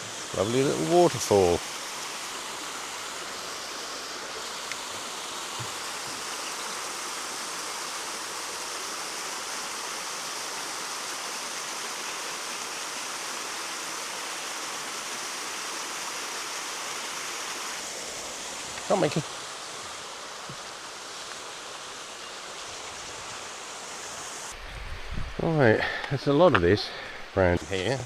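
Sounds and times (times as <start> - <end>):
small waterfall splashing: 0.0 - 24.6.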